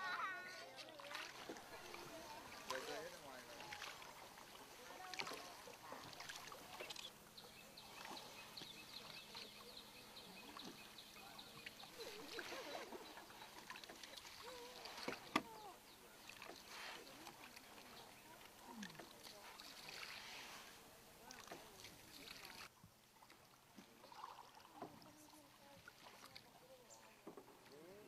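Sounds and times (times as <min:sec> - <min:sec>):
soft oar strokes: 0:00.0 - 0:28.0
water lapping: 0:00.0 - 0:28.0.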